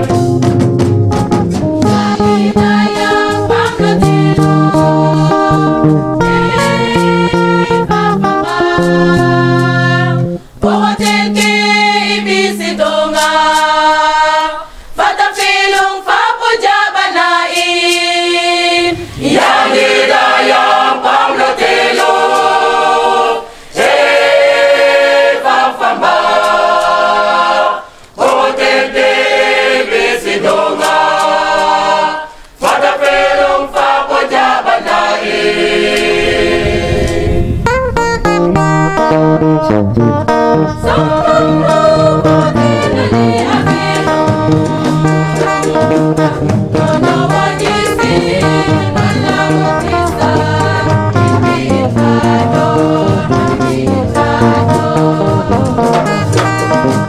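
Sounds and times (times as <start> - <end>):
church choir singing a hymn: 1.9 - 37.6, 40.8 - 56.3.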